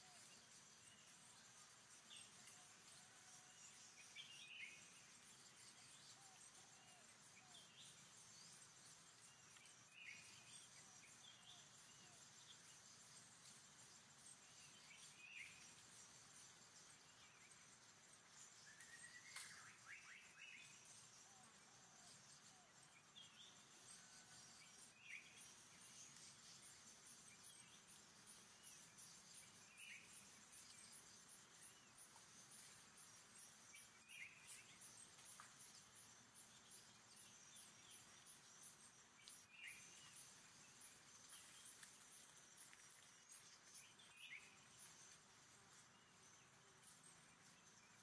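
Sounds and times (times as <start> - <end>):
bird chirping: 0.0 - 48.0
insects buzzing: 0.0 - 48.0.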